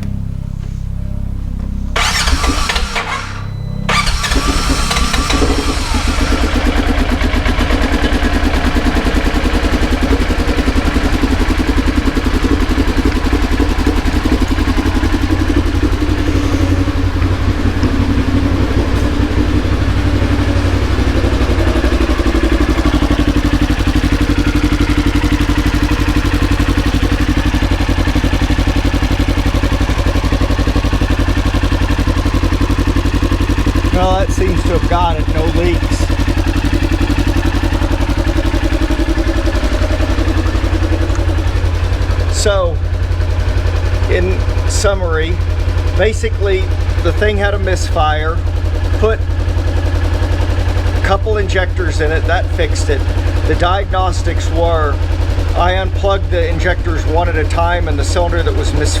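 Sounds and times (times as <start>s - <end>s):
engine starting and idling: 0.0s - 59.0s.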